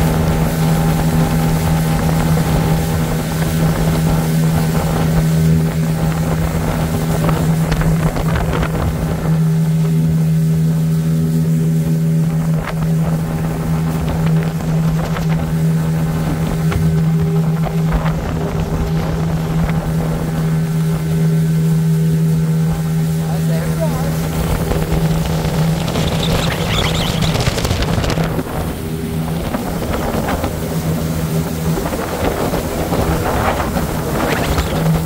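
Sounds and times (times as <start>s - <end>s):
boat engine running: 0.0s - 35.0s
water splashing at hull: 0.0s - 35.0s
wind on microphone: 0.0s - 35.0s.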